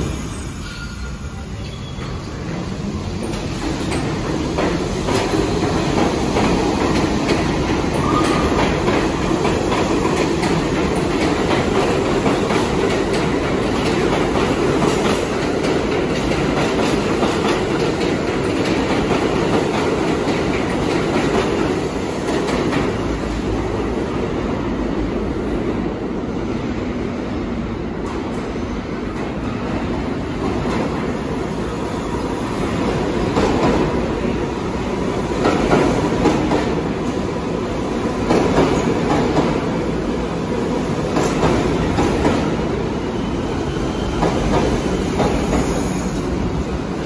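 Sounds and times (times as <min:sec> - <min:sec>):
subway train wheels clattering: 0:00.0 - 0:47.0.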